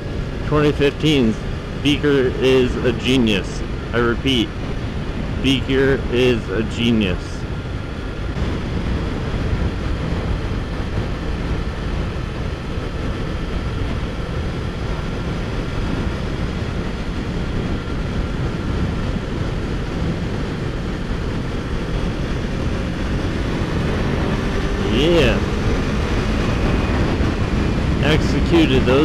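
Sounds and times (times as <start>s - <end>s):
motorcycle engine cruising: 0.0s - 29.0s
wind noise on microphone: 1.1s - 29.0s.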